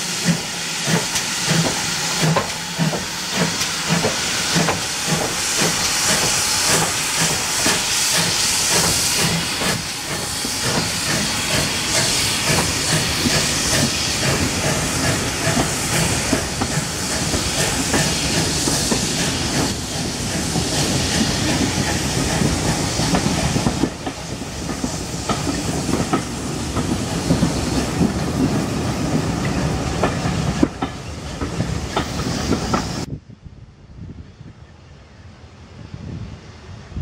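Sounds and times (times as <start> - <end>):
steam hissing: 0.0 - 33.1
train wheels clicking over rail joints: 0.2 - 33.1.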